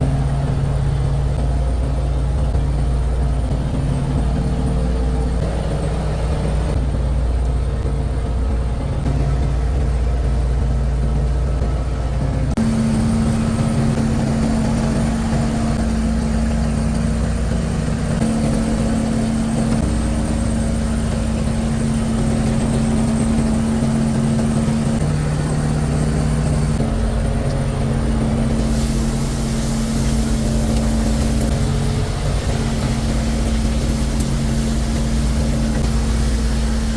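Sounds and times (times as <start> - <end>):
boat engine humming: 0.0 - 36.9.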